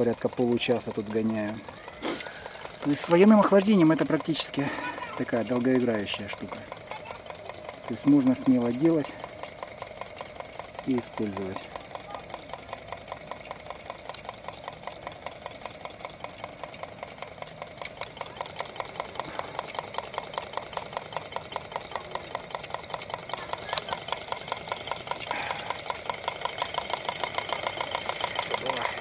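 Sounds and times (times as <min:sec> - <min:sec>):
stirling engine knocking: 0:00.0 - 0:29.0.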